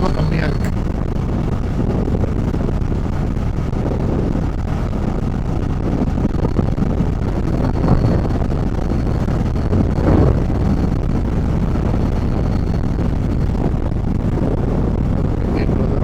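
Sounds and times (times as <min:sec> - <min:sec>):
motorcycle engine and road rumble: 0:00.0 - 0:16.0
wind on microphone: 0:00.0 - 0:16.0.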